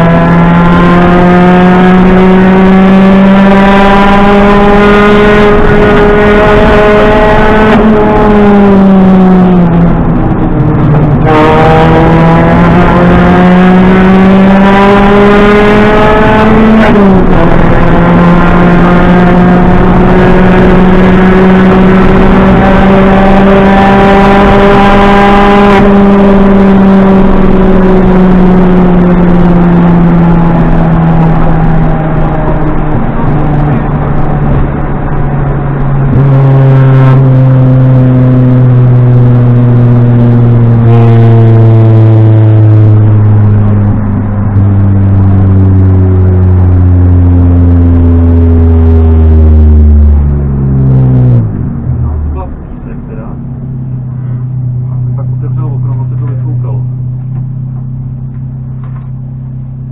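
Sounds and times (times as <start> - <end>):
rally car engine from cabin: 0.0 - 59.9.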